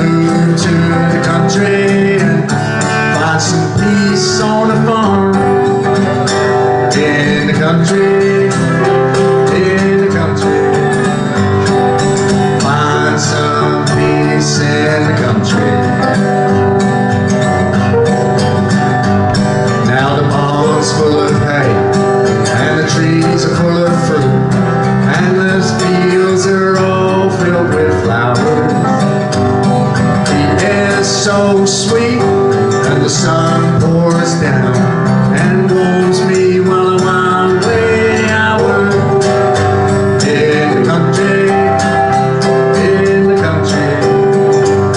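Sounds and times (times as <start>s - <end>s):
man singing: 0.0s - 16.6s, 19.6s - 44.9s
acoustic guitar strumming: 0.0s - 44.9s
piano accompaniment: 0.0s - 44.9s.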